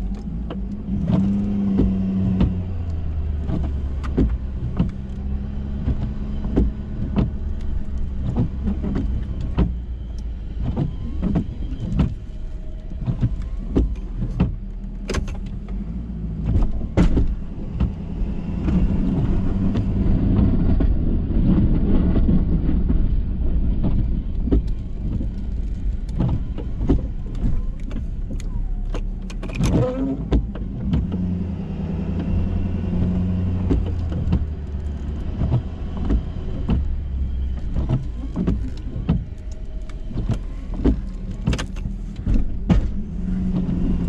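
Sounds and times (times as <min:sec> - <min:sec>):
sharp clicks and clunks: 0:00.0 - 0:23.1, 0:23.7 - 0:31.3, 0:32.1 - 0:44.0
heavy rumbling noise: 0:00.0 - 0:44.0
pickup truck engine hum: 0:00.0 - 0:44.0.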